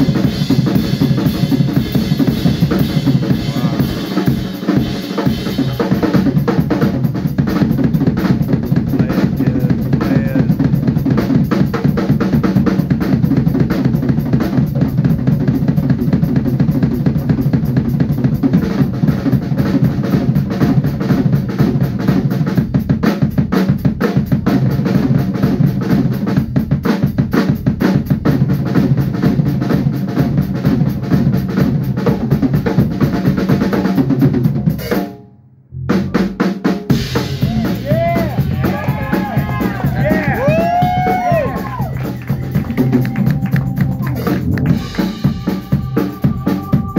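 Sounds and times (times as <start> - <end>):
drum kit driving beat: 0.0 - 35.2, 35.8 - 46.9.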